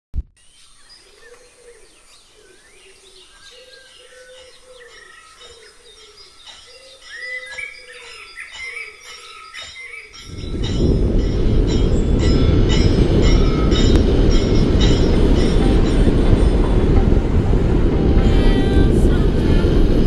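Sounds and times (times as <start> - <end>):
birds calling and chirping: 0.4 - 17.0.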